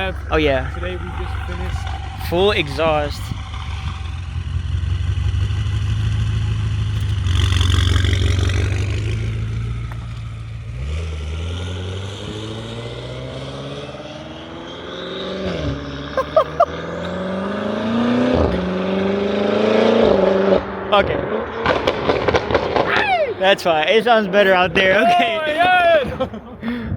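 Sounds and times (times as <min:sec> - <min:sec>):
car engine accelerating: 0:00.0 - 0:25.6.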